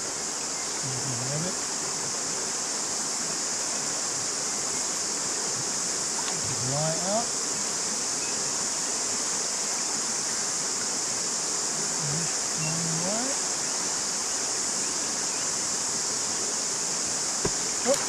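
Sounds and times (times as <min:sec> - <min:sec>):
cicadas singing: 0:00.0 - 0:18.0
river water rushing: 0:01.5 - 0:18.0.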